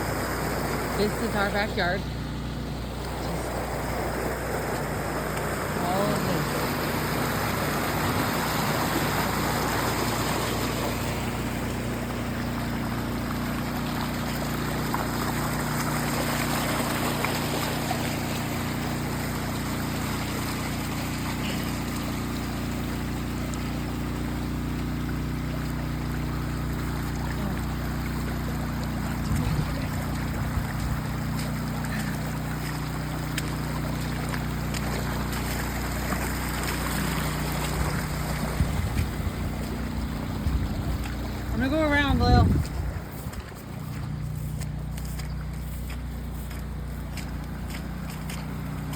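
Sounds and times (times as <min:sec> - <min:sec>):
floodwater rushing: 0:00.0 - 0:48.9.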